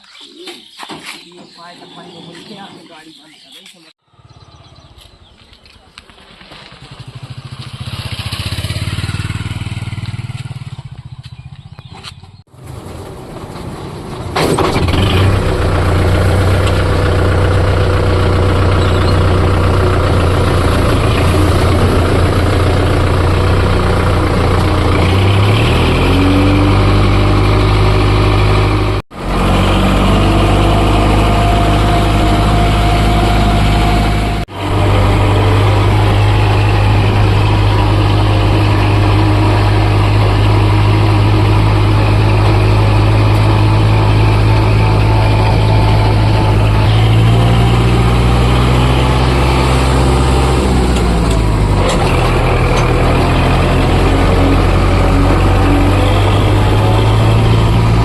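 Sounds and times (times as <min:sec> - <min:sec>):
tractor diesel engine running: 0:04.0 - 0:58.0.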